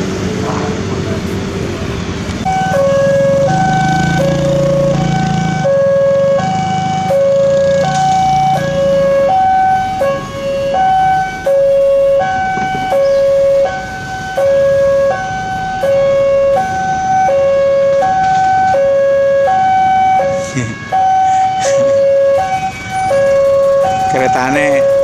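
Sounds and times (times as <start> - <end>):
low traffic rumble: 0.0 - 25.0
two-tone level-crossing alarm: 2.5 - 25.0.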